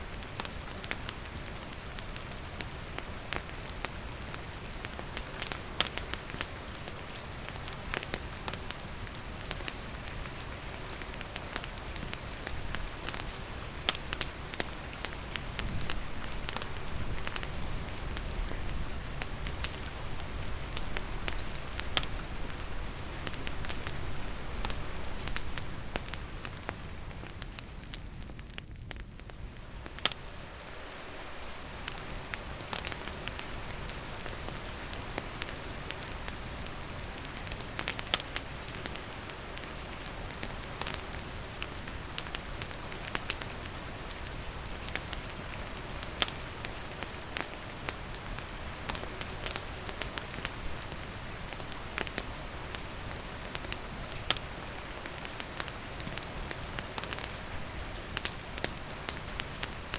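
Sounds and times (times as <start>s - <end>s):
campfire crackling and popping: 0.0s - 59.9s
rain on roof and foliage: 0.0s - 59.9s.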